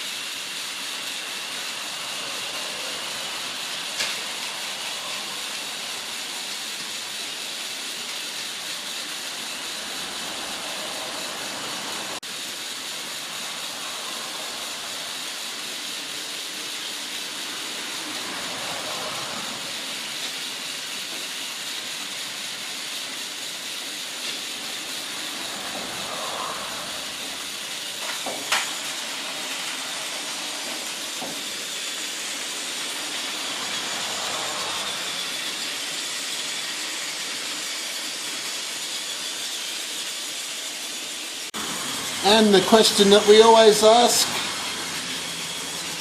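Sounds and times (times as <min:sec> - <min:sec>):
toy train motor whirring: 0:00.0 - 0:46.0.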